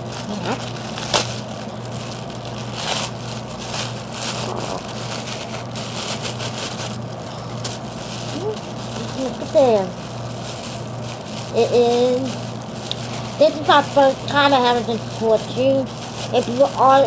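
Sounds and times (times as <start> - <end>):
packaging rustling and crinkling: 0.0 - 17.0
steady low hum: 0.0 - 17.0.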